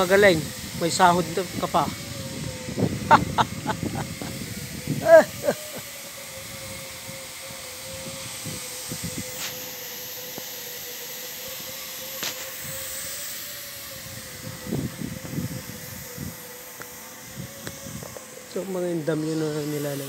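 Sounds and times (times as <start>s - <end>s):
faint machine whine: 0.0s - 20.0s
steady hiss: 0.0s - 20.0s.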